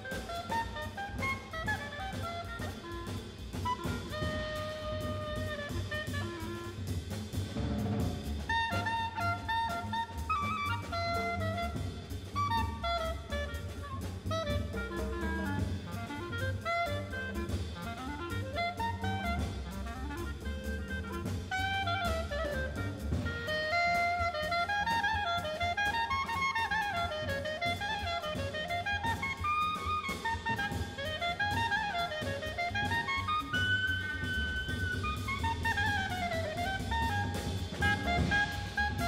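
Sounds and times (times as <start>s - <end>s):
clarinet solo: 0.0s - 39.0s
double bass: 0.0s - 39.0s
drum kit cymbals: 0.0s - 39.0s.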